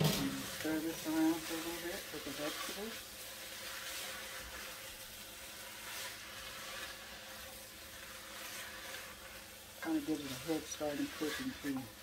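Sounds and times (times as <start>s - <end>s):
food sizzling in oil: 0.0s - 12.0s
spoon scraping pot: 0.0s - 12.0s.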